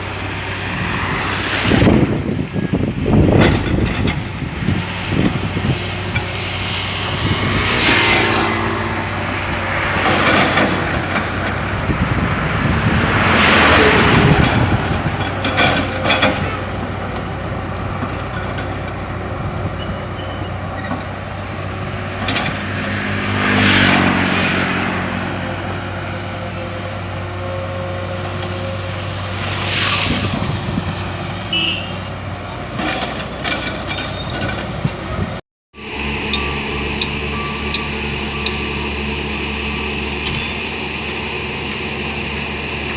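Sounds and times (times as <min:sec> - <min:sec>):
diesel construction machinery running: 0:00.0 - 0:42.9
vehicles passing: 0:00.0 - 0:42.9.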